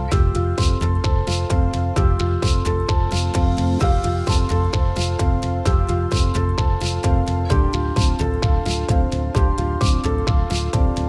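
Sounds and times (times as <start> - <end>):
music with drum beat and bass: 0.0 - 11.0.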